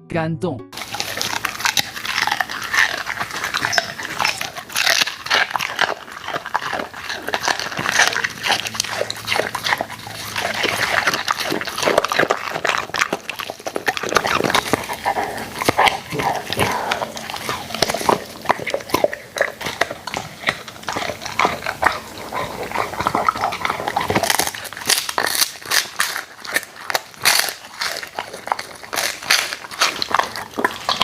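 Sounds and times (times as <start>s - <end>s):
dog chewing and crunching food: 0.7s - 31.0s.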